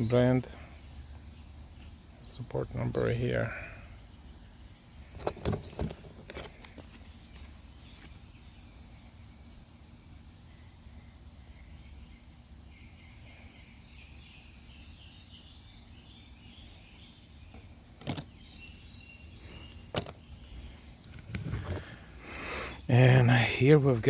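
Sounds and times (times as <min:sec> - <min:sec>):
low steady background noise: 0:00.0 - 0:24.0.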